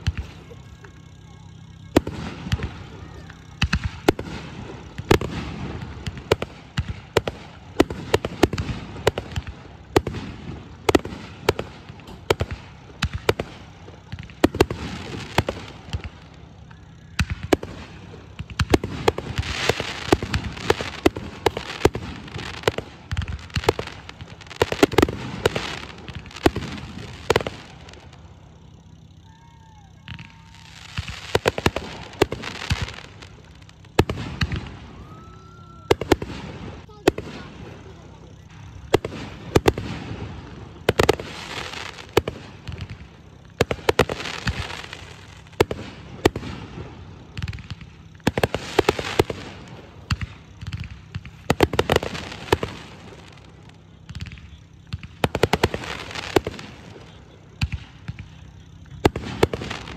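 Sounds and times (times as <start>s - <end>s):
fireworks banging: 0.0s - 59.9s
fireworks crackling: 0.0s - 59.9s.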